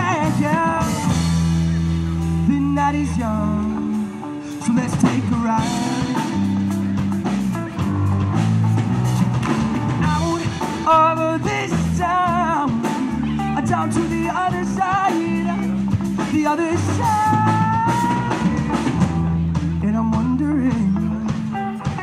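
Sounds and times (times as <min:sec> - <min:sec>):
live pop rock band playing: 0:00.0 - 0:22.0.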